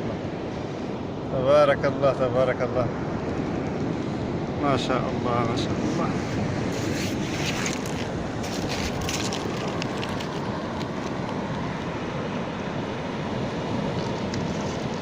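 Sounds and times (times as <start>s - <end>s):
wind and surf rushing: 0.0s - 15.0s
wind buffeting microphone: 2.5s - 15.0s.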